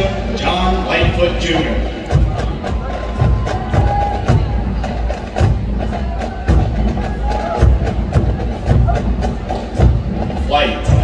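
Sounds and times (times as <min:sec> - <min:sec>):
military march music: 0:00.0 - 0:11.0
sharp percussion beat: 0:00.0 - 0:11.0.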